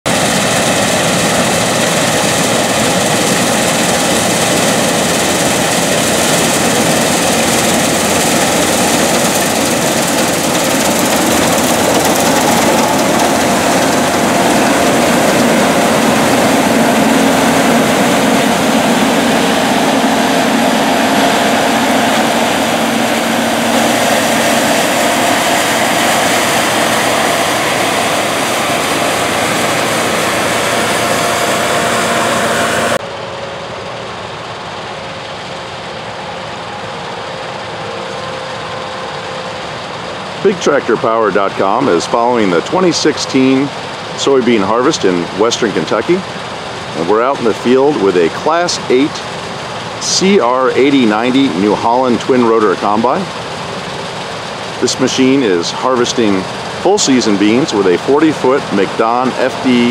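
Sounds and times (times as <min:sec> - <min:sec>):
combine harvester running: 0:00.1 - 0:59.9.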